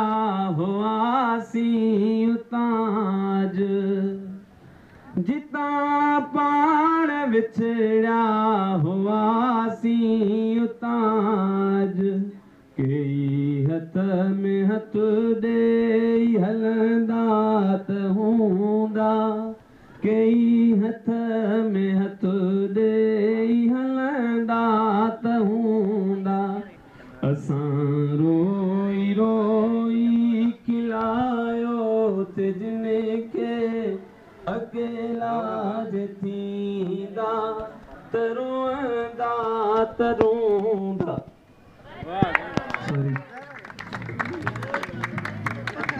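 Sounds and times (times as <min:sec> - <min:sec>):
man singing unaccompanied: 0:00.0 - 0:04.5, 0:05.1 - 0:41.4.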